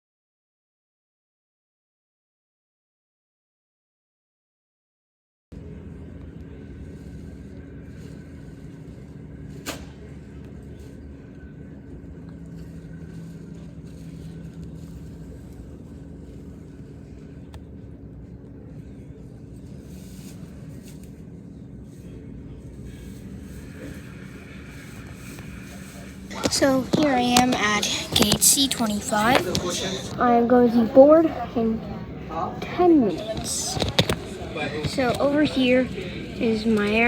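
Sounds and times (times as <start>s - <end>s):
constant hum: 5.5s - 37.0s.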